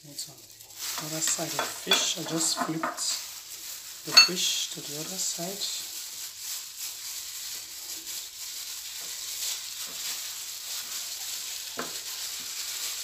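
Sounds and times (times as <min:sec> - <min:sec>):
plastic gloves crinkling: 0:00.0 - 0:13.0.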